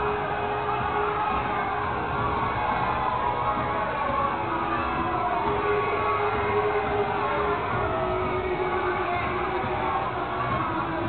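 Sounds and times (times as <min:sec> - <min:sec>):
crowd shouting: 0:00.0 - 0:11.0.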